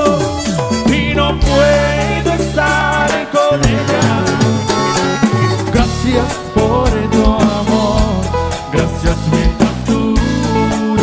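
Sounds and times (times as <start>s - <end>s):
cumbia band playing: 0.0s - 11.0s
electric guitar: 0.0s - 11.0s
electronic keyboard: 0.0s - 11.0s.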